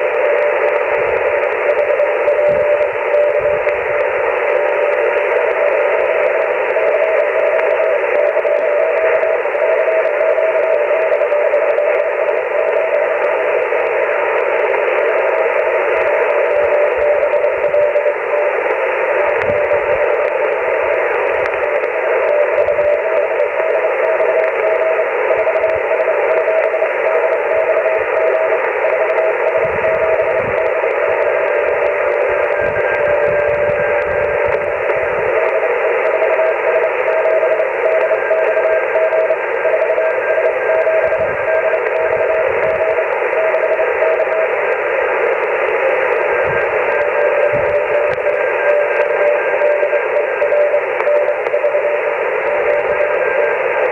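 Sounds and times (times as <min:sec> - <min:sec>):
morse code tone: 0:00.0 - 0:53.9
radio static hiss: 0:00.0 - 0:53.9.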